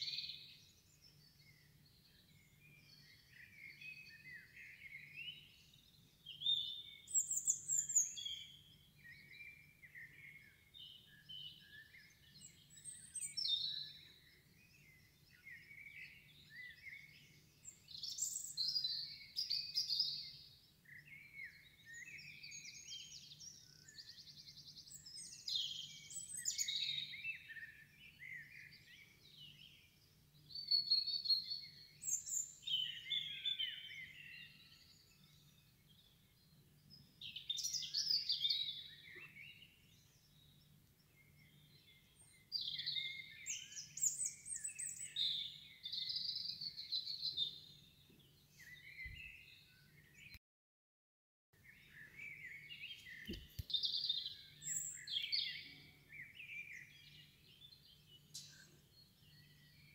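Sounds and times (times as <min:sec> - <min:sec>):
small birds chirping and singing: 0:00.0 - 0:50.4, 0:51.6 - 0:59.9.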